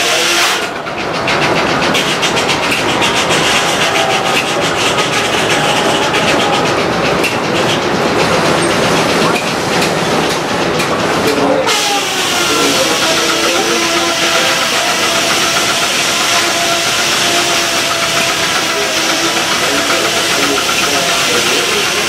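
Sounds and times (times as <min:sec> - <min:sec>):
log carriage rattling clatter: 0:00.1 - 0:22.0.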